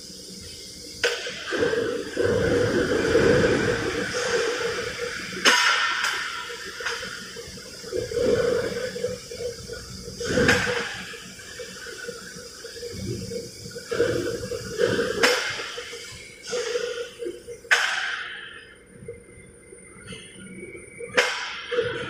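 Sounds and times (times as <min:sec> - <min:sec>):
shop machinery hiss: 0:00.0 - 0:18.8.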